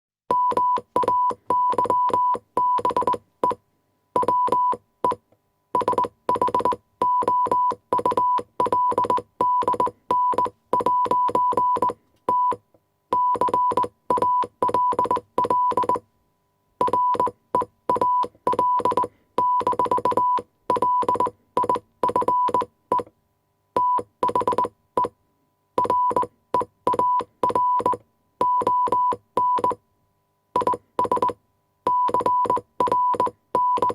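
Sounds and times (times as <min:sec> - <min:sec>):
morse code beeps: 0:00.3 - 0:03.6, 0:04.2 - 0:05.2, 0:05.8 - 0:16.0, 0:16.8 - 0:23.1, 0:23.8 - 0:25.2, 0:25.8 - 0:29.8, 0:30.6 - 0:33.9.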